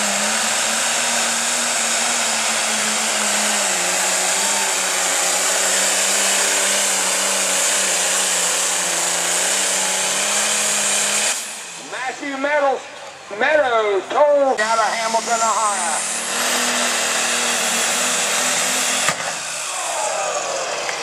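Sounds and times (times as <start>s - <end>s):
diesel engine at high revs: 0.0s - 13.6s, 14.5s - 21.0s.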